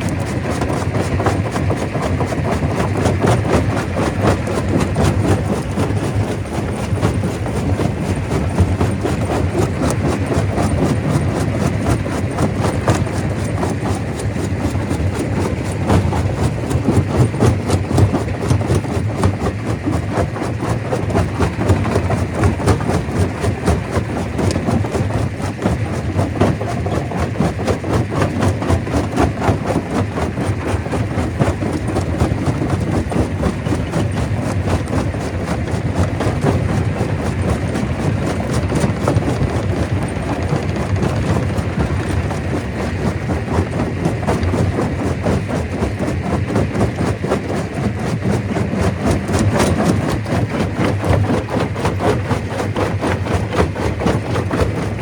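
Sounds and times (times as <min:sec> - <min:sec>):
stone crusher rumbling: 0:00.0 - 0:55.0.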